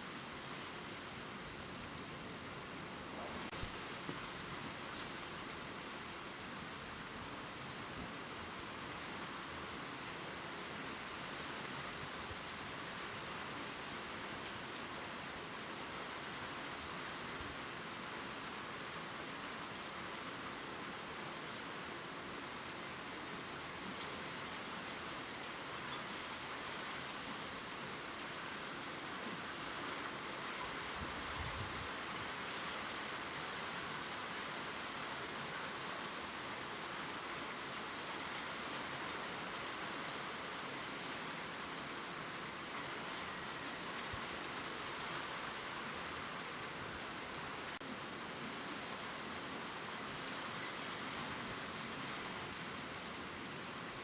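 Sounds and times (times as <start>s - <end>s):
gentle rain on leaves: 0.0s - 54.0s.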